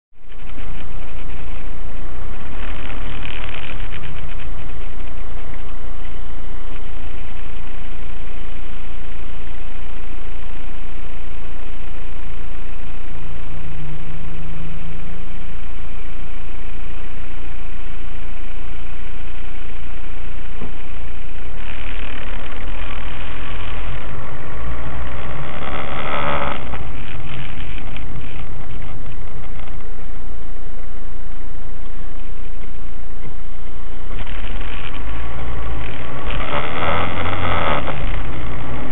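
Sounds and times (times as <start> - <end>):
tyre noise on wet road: 0.2 - 11.9, 18.3 - 38.9
car engine: 0.2 - 38.9.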